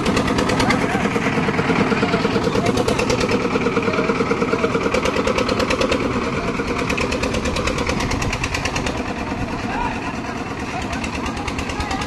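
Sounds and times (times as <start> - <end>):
concrete mixer engine running: 0.0 - 12.0.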